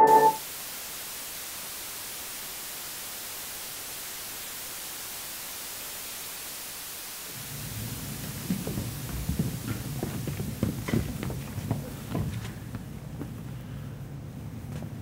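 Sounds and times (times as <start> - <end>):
television static hiss: 0.0 - 14.8.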